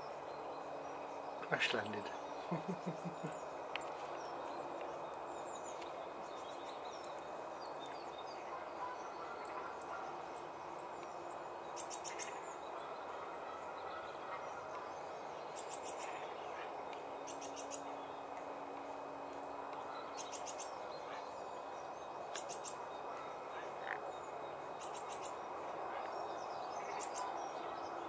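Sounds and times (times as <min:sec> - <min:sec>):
low background rush: 0:00.0 - 0:28.0
small birds chirping and trilling: 0:00.0 - 0:28.0.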